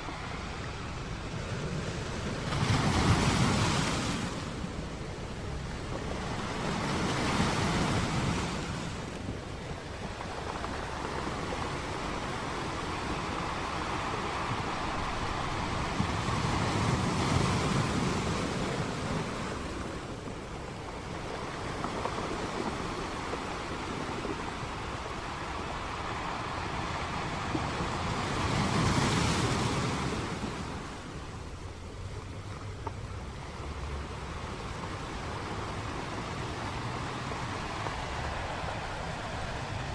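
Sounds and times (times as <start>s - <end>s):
sea waves breaking on beach: 0.0s - 39.9s
wind buffeting microphone: 0.0s - 39.9s.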